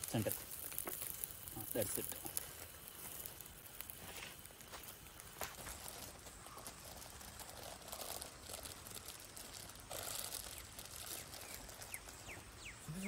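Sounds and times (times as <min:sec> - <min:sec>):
faint rustles and crinkles: 0:00.0 - 0:12.8.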